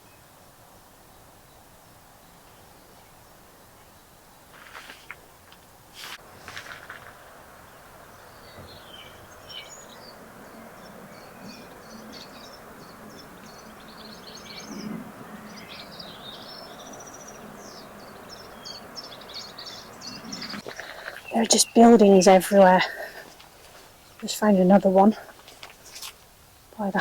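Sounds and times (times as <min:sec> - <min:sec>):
small birds chirping: 0:01.1 - 0:27.0.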